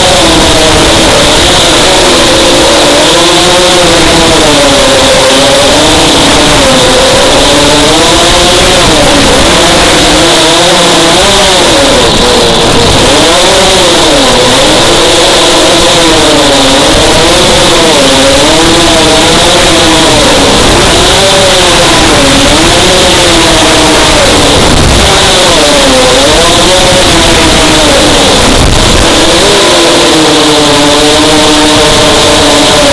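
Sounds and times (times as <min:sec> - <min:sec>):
quadcopter motors whining: 0:00.0 - 0:32.9.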